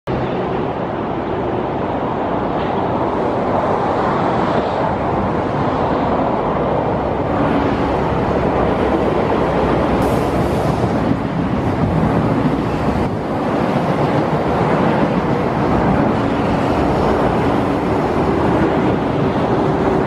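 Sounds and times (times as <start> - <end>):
train running noise: 0.1 - 20.0.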